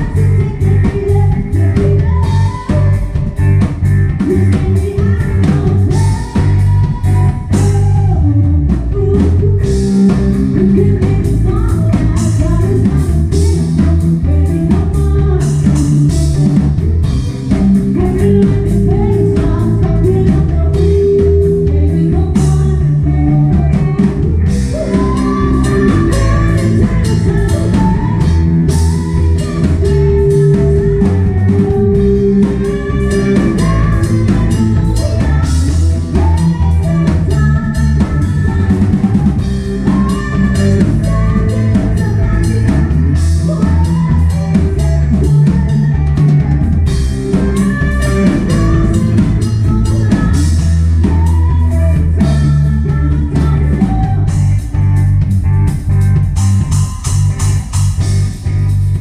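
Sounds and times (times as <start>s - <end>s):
person singing: 0.0s - 54.8s
drum kit: 0.0s - 59.0s
guitar: 0.0s - 59.0s
low bass line: 0.0s - 59.0s.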